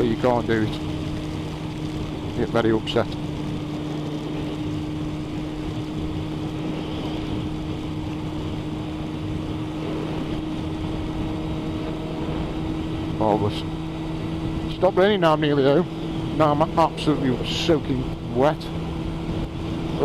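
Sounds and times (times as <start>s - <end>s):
motorcycle engine cruising: 0.0s - 20.0s
wind and road noise: 0.0s - 20.0s.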